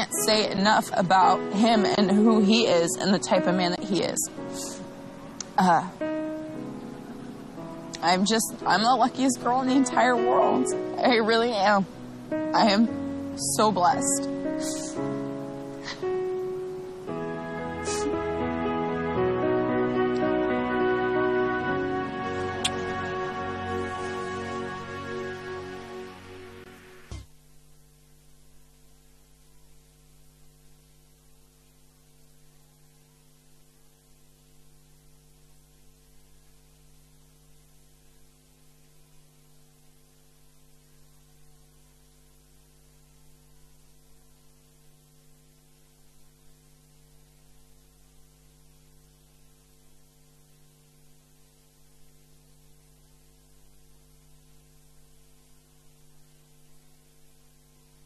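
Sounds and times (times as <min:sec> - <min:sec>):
electrical mains hum: 0:00.0 - 0:58.0
light hiss: 0:00.0 - 0:58.0.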